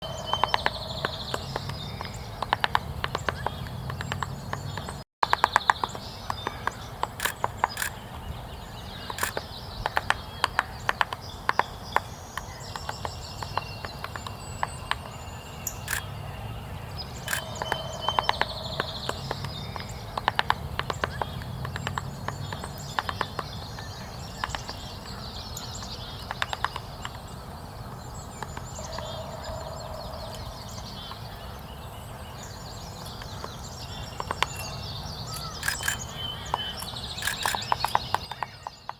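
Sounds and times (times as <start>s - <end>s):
woodpecker tapping on bark: 0.1s - 16.1s, 17.2s - 27.4s, 28.3s - 31.4s, 32.9s - 38.9s.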